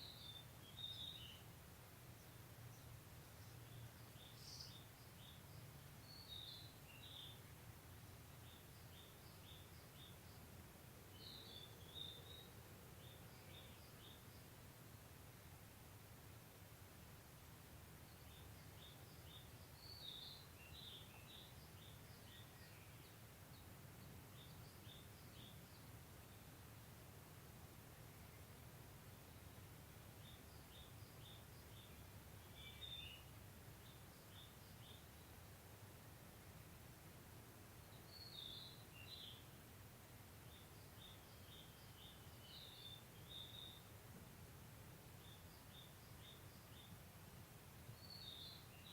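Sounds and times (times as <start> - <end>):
faint birdsong: 0.0 - 48.9
songbird chirping: 0.0 - 48.9.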